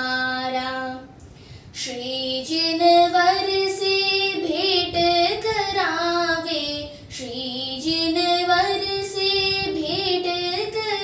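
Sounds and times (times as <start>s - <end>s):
girl singing devotional song: 0.0s - 11.0s.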